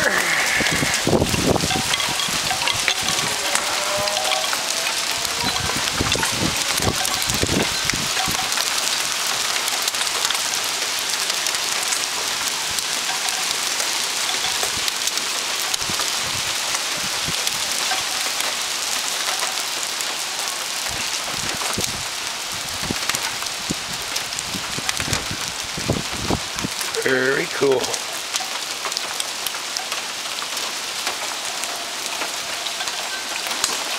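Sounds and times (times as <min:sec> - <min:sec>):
hail and rain pattering: 0:00.0 - 0:33.9
hailstones knocking: 0:00.0 - 0:33.9.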